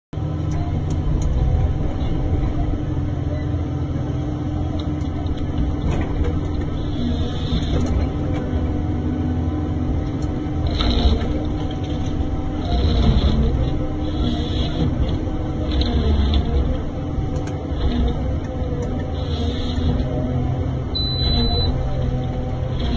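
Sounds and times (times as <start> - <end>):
forest harvester working: 0.2 - 22.9.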